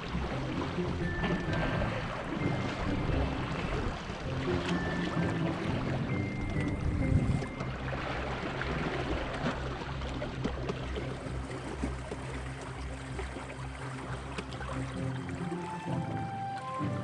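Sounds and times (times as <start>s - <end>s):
water splashing along boat hull: 0.0s - 17.0s.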